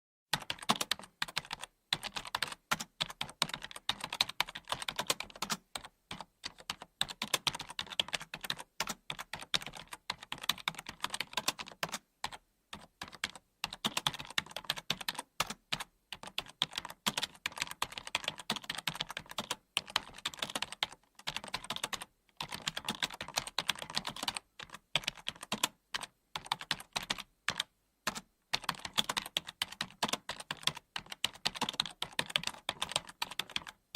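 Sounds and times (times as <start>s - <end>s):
computer keyboard typing: 0.3s - 33.9s.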